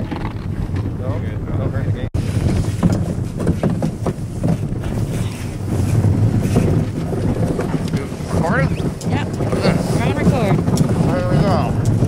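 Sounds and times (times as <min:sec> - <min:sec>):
runners rumbling on ice: 0:00.0 - 0:12.0
wind buffeting microphone: 0:00.0 - 0:12.0
rattle of scraping clicks: 0:02.2 - 0:12.0.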